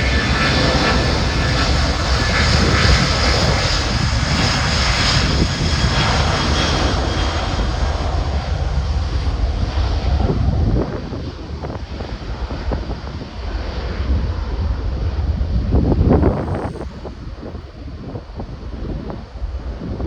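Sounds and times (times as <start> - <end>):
deep rumble: 0.0 - 20.0
jet engines roaring: 0.0 - 20.0.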